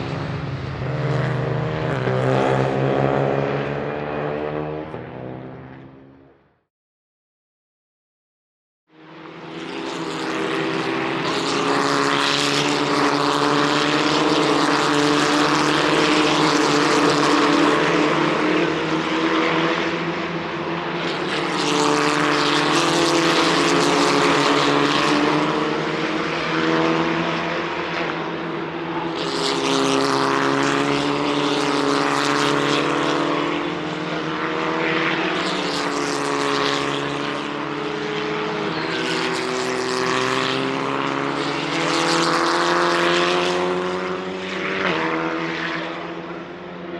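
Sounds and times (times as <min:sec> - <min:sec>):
racing car engines droning: 0:00.0 - 0:06.6, 0:08.9 - 0:46.9.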